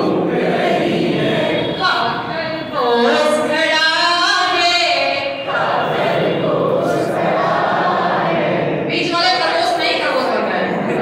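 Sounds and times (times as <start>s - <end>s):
adults singing in chorus: 0.0s - 9.0s.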